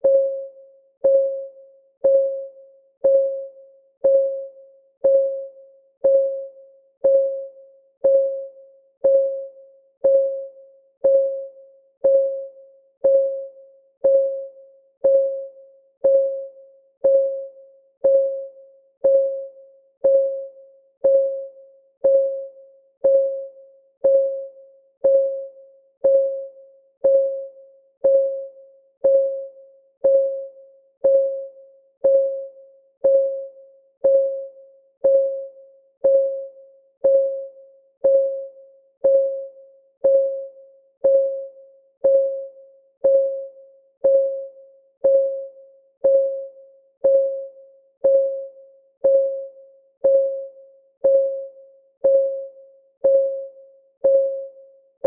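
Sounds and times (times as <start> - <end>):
countdown timer ticking: 1.0 - 1.4, 2.0 - 54.6.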